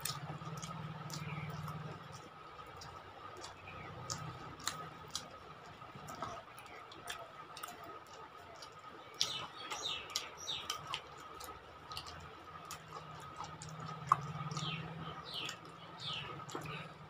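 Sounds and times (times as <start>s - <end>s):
chewing: 0.0s - 17.0s
small birds chirping: 0.0s - 17.0s.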